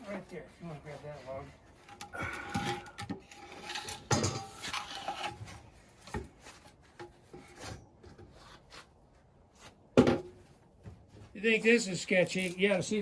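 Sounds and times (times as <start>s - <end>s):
wooden logs scraping: 0.0s - 13.0s.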